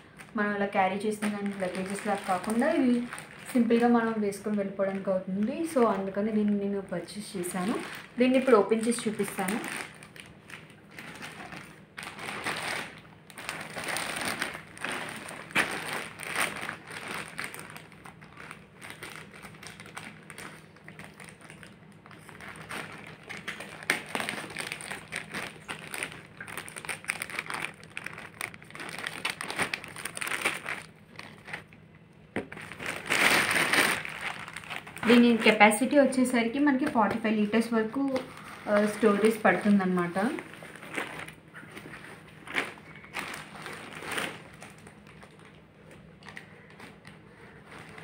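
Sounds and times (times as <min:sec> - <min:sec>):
plastic packaging crinkling: 0:00.0 - 0:48.0.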